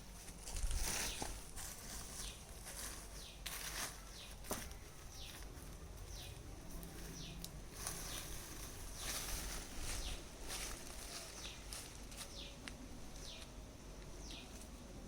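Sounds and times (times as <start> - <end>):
outdoor rustle: 0.0 - 15.0.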